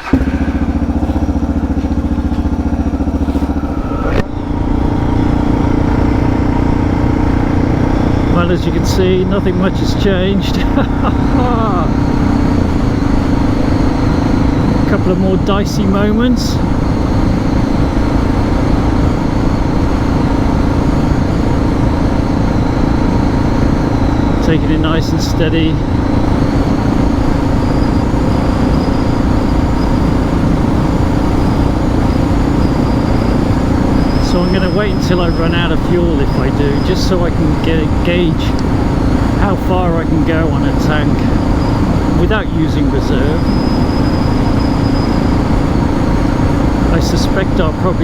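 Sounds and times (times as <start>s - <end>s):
motorcycle engine running: 0.0s - 48.0s
wind and road noise: 0.0s - 48.0s.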